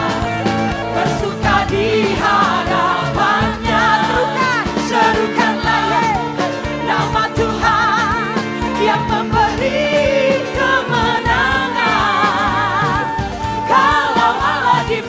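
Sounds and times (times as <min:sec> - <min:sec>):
band playing upbeat song: 0:00.0 - 0:15.0
people singing: 0:00.0 - 0:15.0
steady drum beat: 0:00.0 - 0:15.0.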